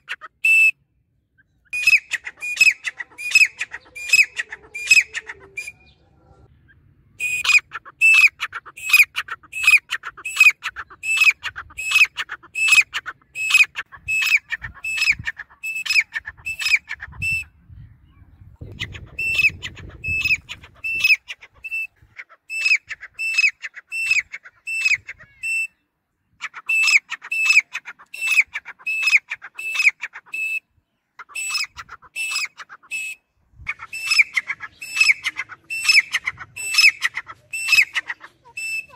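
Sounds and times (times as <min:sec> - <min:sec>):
bird calling shrill notes: 0:00.0 - 0:06.0, 0:06.7 - 0:17.5, 0:19.1 - 0:38.9.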